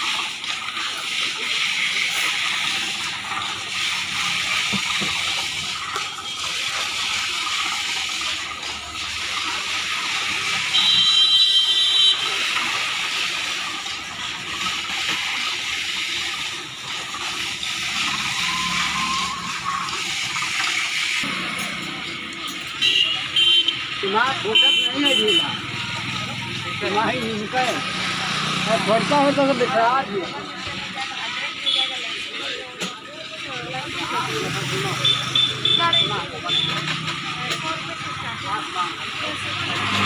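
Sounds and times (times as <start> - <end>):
juice pouring and splashing: 0.0 - 40.0.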